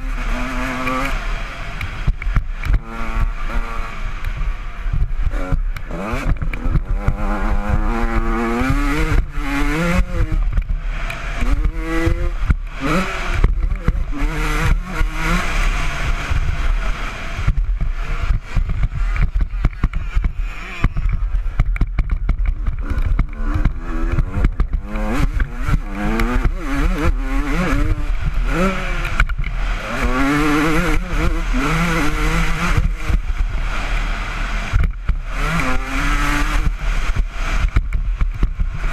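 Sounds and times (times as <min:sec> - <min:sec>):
motorcycle engine revving: 0:00.0 - 0:38.9
wind rumble on microphone: 0:00.0 - 0:38.9.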